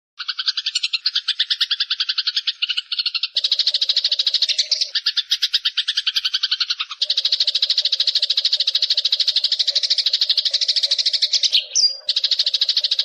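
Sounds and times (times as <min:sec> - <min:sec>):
sparrows chirping rapidly: 0:00.2 - 0:13.0.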